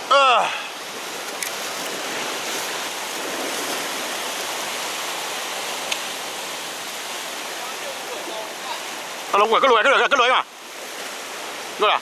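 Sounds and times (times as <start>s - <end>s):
sea surf washing against rocks: 0.0s - 12.0s.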